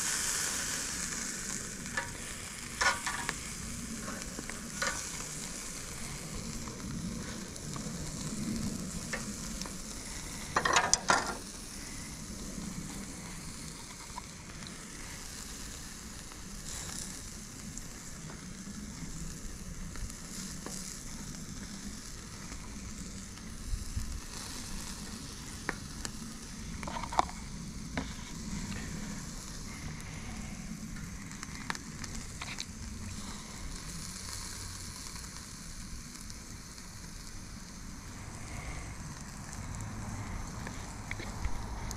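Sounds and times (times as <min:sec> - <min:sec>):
crabs sizzling on grill: 0:00.0 - 0:41.9
dripping hissing on coals: 0:00.0 - 0:41.9
sharp crackles: 0:00.0 - 0:41.9.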